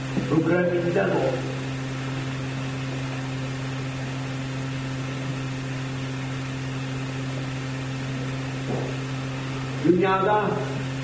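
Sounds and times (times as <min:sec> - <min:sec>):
low electrical hum with hiss: 0:00.0 - 0:11.0.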